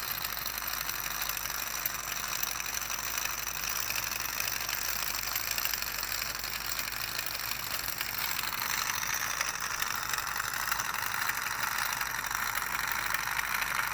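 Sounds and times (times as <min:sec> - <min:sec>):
engine driving gear train clicking: 0:00.0 - 0:13.9.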